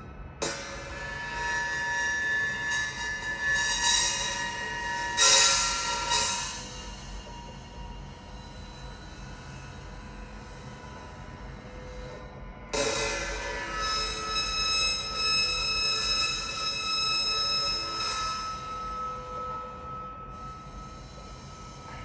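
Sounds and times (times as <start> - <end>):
high squealing ringing tones: 0.6 - 12.2, 12.9 - 22.0.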